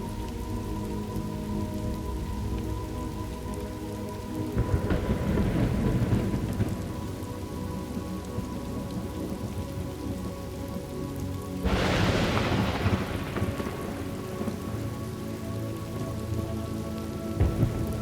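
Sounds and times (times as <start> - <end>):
thunder rumbling: 0.0 - 11.0, 11.6 - 16.7, 17.3 - 18.0
steady rain falling: 0.0 - 18.0.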